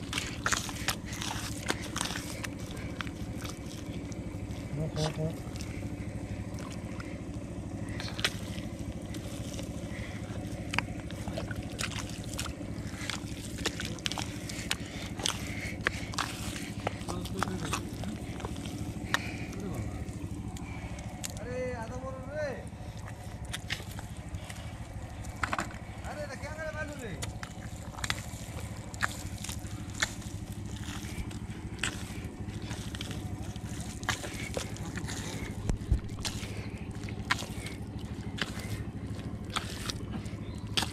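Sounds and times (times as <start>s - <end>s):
sharp wet clicks: 0.0s - 22.0s, 22.6s - 26.2s, 26.8s - 40.9s
hands squelching through wet mud: 0.0s - 40.9s
low machine drone: 0.0s - 40.9s.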